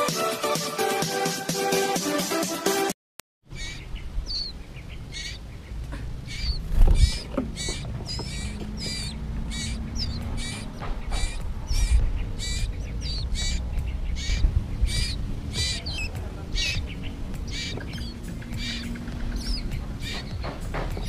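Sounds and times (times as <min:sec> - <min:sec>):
nestlings chirping: 0:03.4 - 0:21.0.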